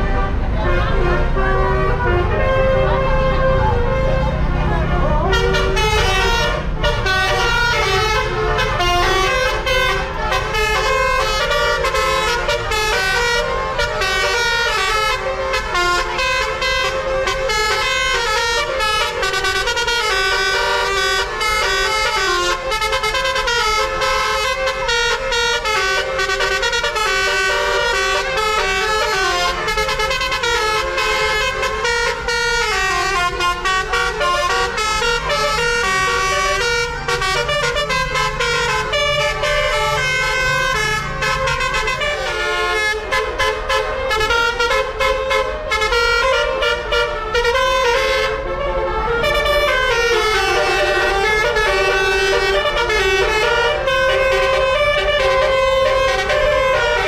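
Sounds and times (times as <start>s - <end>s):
bus engine rumble: 0.0s - 57.0s
bus horn playing rapid melody: 0.0s - 57.0s.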